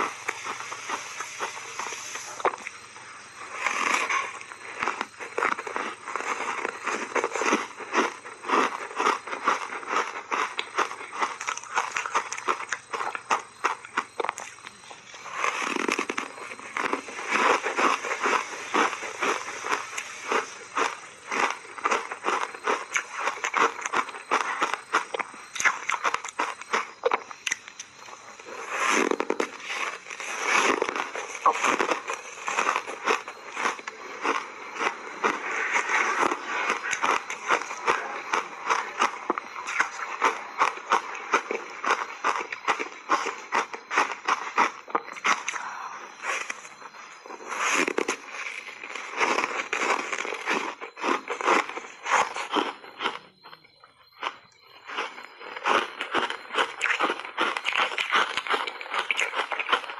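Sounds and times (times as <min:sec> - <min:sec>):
ice crunching being chewed: 0:00.0 - 0:59.9.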